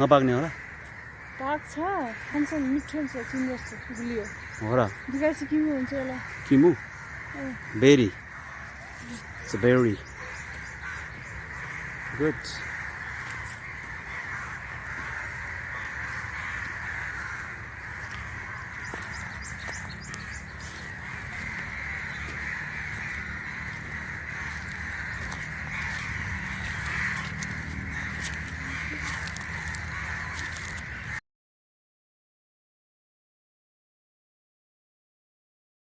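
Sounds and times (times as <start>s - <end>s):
birds calling: 0.0s - 31.2s.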